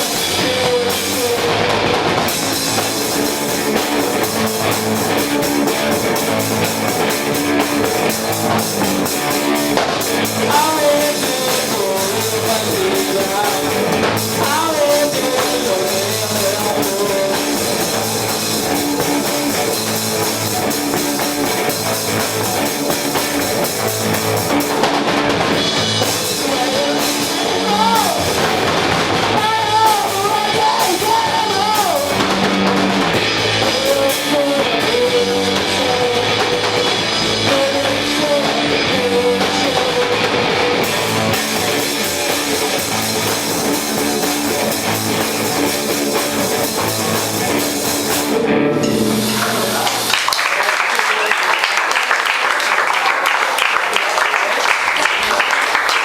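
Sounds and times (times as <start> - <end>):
pounding drum kit: 0.0 - 50.4
electric guitars: 0.0 - 53.4
rock band playing: 0.0 - 56.0.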